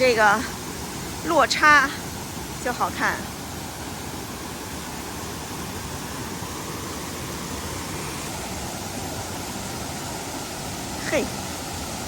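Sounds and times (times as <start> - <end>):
stream rushing down waterfall: 0.0 - 12.0.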